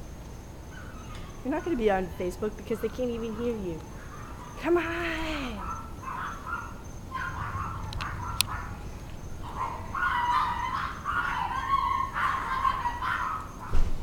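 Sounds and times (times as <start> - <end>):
drawn-out animal calls: 0.7 - 13.8.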